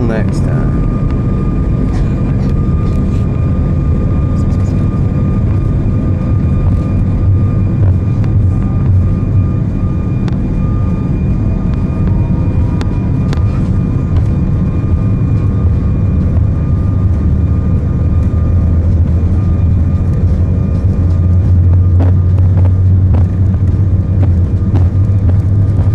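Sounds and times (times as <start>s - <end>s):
faint whining tones: 0.0s - 25.9s
jet engines droning: 0.0s - 25.9s.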